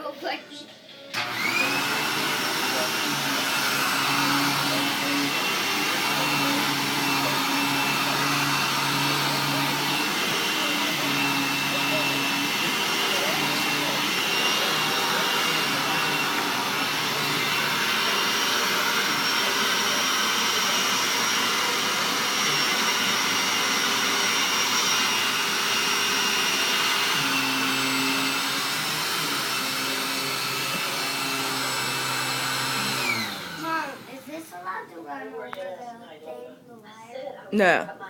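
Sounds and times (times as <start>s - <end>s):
vacuum cleaner running: 1.1s - 35.1s.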